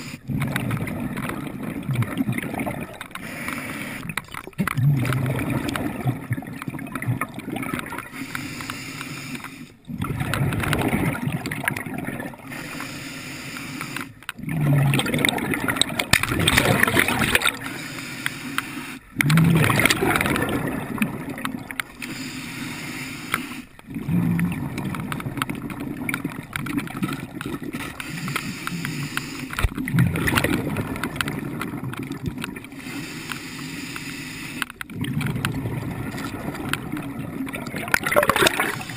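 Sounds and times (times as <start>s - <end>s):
underwater gurgling and rushing: 0.0s - 38.9s.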